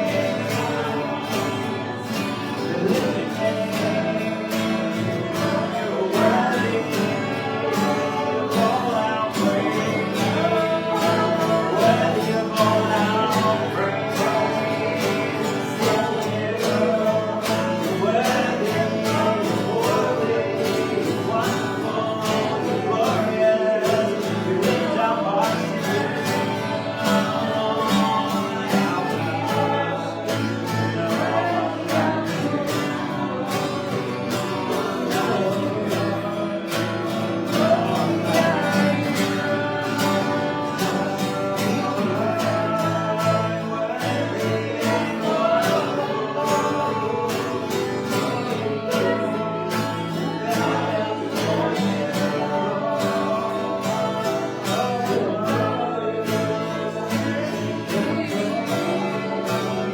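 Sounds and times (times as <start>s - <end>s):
person singing: 0.0s - 59.9s
strummed guitar: 0.0s - 59.9s.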